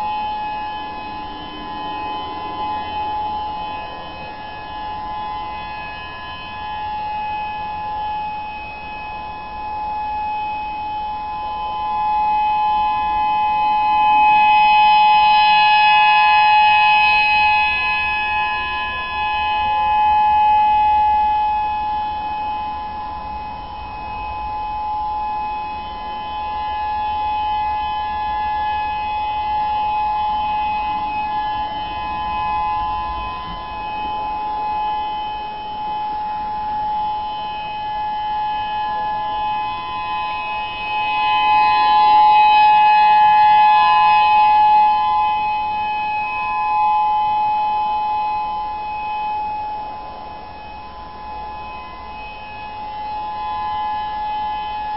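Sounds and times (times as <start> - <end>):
warning siren steady tone: 0.0 - 54.9.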